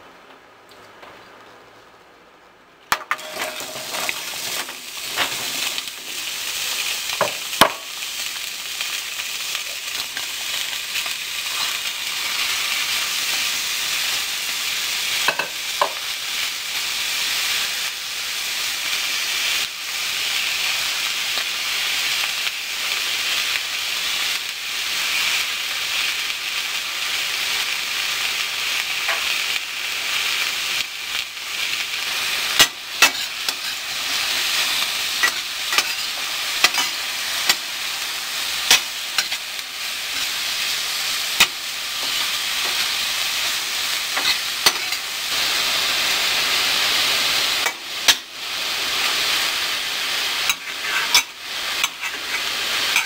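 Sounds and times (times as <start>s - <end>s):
vegetables sizzling in a skillet: 2.9s - 53.0s.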